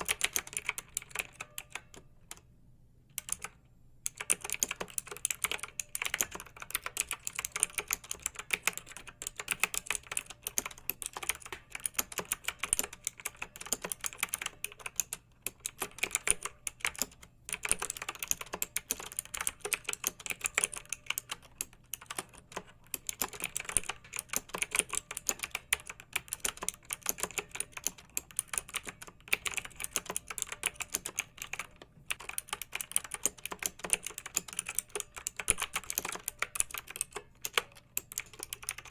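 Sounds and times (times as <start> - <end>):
fast typing on keyboard: 0.0 - 2.4, 3.2 - 38.9.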